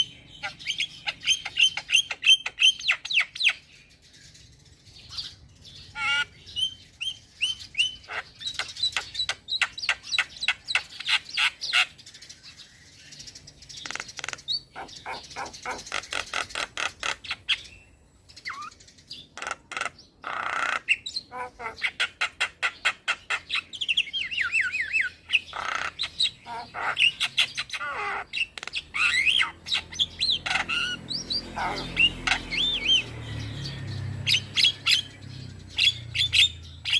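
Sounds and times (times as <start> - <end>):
myna bird singing: 0.0 - 36.9.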